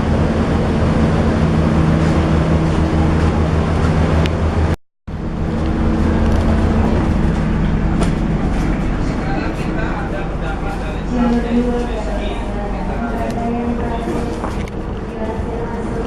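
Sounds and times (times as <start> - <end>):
diesel train engine humming: 0.0 - 16.0.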